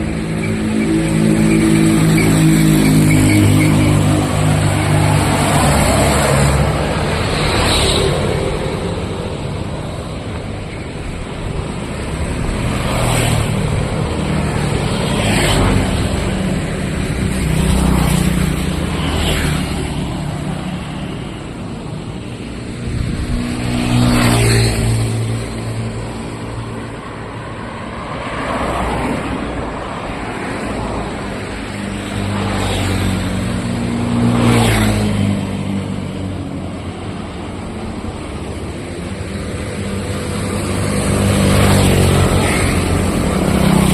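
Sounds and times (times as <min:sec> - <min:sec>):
road noise hum: 0:00.0 - 0:43.9
vehicles passing close by: 0:00.0 - 0:43.9.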